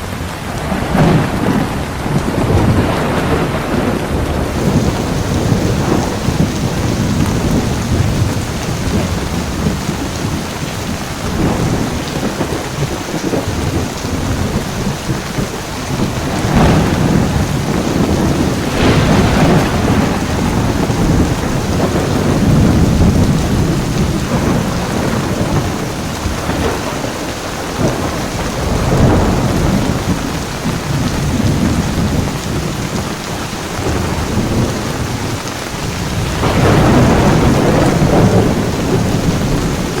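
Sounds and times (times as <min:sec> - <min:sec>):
heavy rain pouring: 0:00.0 - 0:40.0
rolling thunder: 0:00.0 - 0:40.0.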